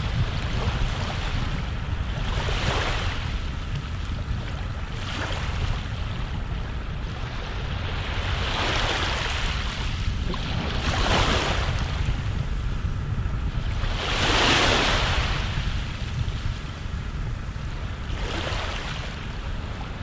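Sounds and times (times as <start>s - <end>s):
waves washing in: 0.0s - 20.0s
wind rumble: 0.0s - 20.0s.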